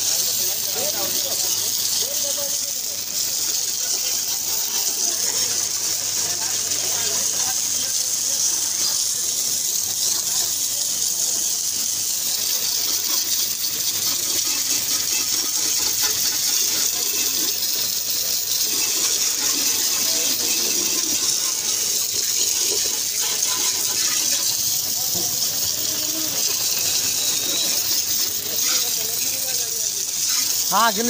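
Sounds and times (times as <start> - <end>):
pressure washer spraying metal: 0.0 - 31.0.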